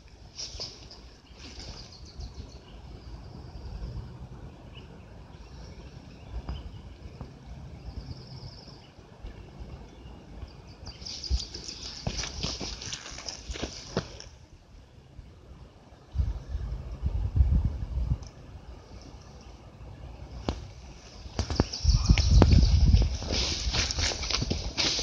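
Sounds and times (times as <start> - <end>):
steady low rumble: 0.9 - 25.0.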